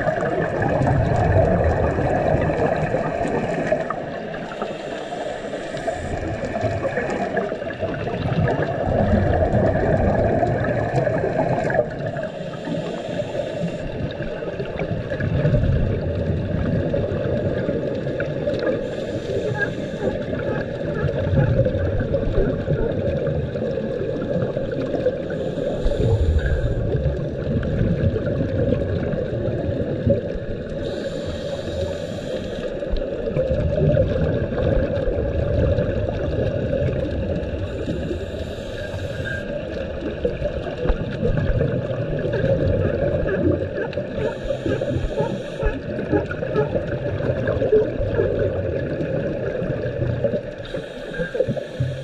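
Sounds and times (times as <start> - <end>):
diver exhaling bubbles: 0.0 - 52.0
underwater rush: 0.0 - 52.0.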